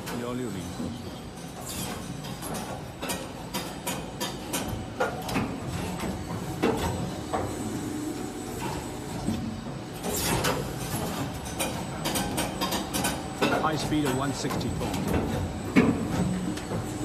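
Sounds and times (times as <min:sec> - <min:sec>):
machine clicks and clunks: 0:00.0 - 0:07.6, 0:08.5 - 0:17.0.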